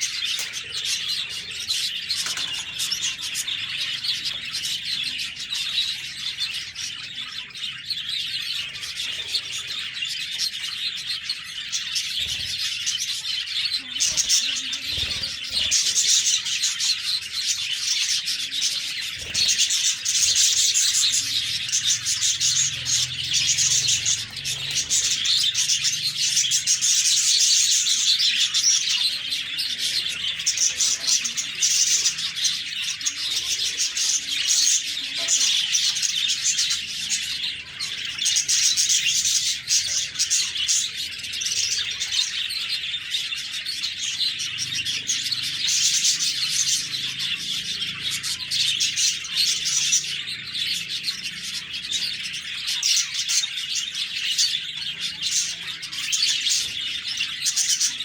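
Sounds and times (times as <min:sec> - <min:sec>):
budgerigars chirping and warbling: 0:00.0 - 0:58.0.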